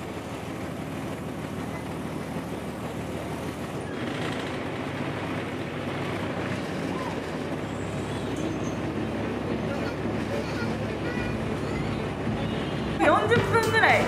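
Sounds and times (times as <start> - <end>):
boat engine hum: 0.0 - 14.0.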